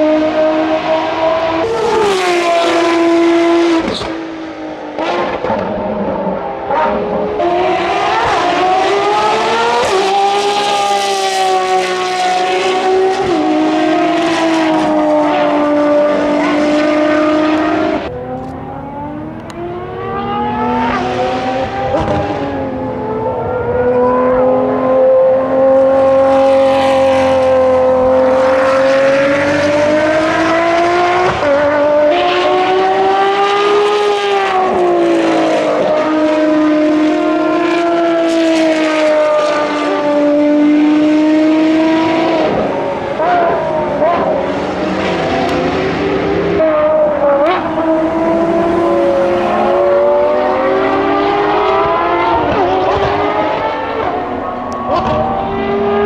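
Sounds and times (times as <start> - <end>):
race car engines revving hard: 0.0 - 56.0.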